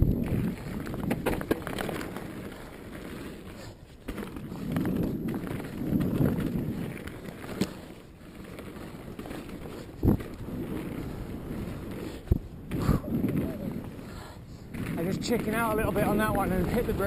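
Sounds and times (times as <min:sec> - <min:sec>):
bike rattling over rough ground: 0:00.0 - 0:17.0
bike tyres rolling on dirt: 0:00.0 - 0:17.0.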